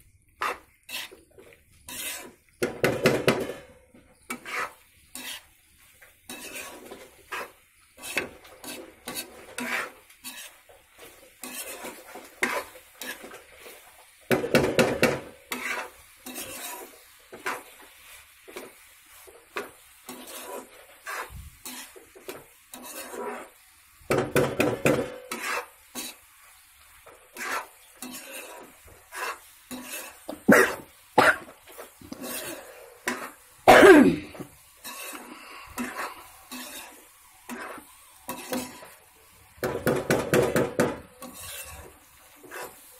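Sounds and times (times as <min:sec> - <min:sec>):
spatula scraping steel pan: 0:00.4 - 0:05.6, 0:06.2 - 0:26.3, 0:27.0 - 0:39.0, 0:39.6 - 0:42.9.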